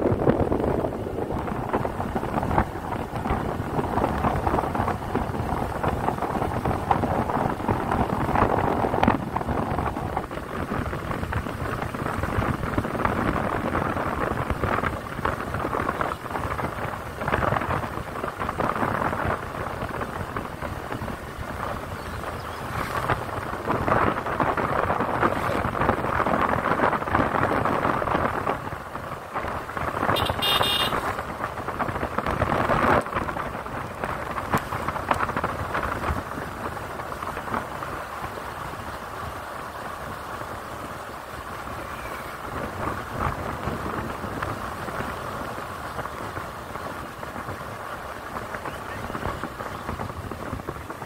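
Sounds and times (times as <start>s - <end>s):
bike road noise: 0.0s - 51.0s
wind rushing over microphone: 0.0s - 51.0s.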